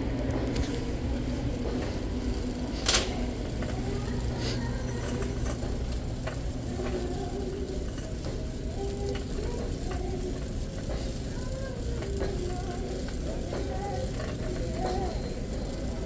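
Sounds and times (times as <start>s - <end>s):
faint distant voices: 0.0s - 16.0s.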